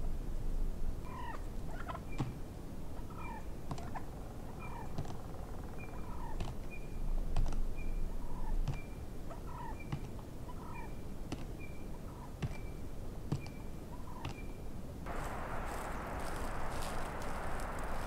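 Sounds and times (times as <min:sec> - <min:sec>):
wild turkeys calling: 0:01.0 - 0:07.2, 0:07.8 - 0:14.5, 0:15.1 - 0:18.0.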